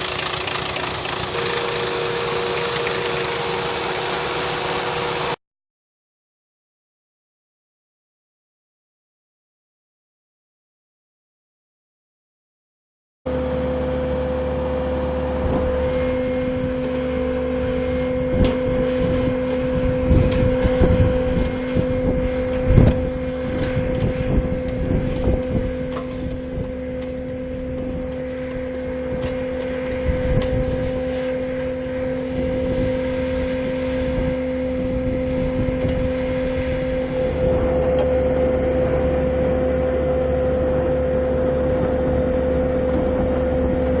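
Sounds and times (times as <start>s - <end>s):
held whine: 0.0s - 5.4s, 13.3s - 44.0s
machinery engine hum: 0.0s - 5.4s, 13.3s - 44.0s.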